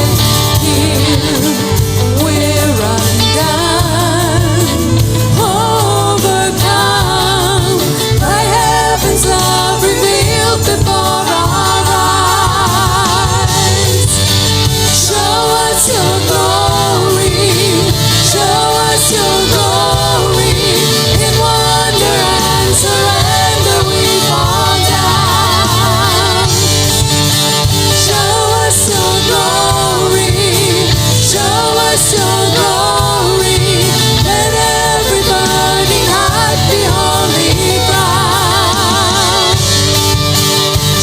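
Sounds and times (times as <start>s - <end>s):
voices singing: 0.0s - 40.6s
worship band playing: 0.0s - 41.0s.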